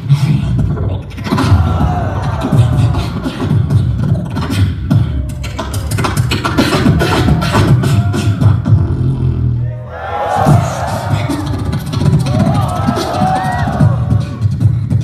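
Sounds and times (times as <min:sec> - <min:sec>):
beatboxing through a microphone: 0:00.0 - 0:09.7, 0:10.3 - 0:15.0
wavering pitched vocal line: 0:00.0 - 0:14.7.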